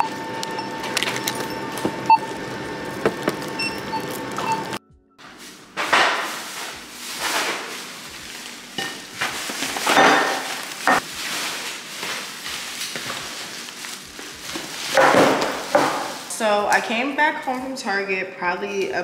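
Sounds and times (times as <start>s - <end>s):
plastic bags rustling: 0.8s - 16.8s.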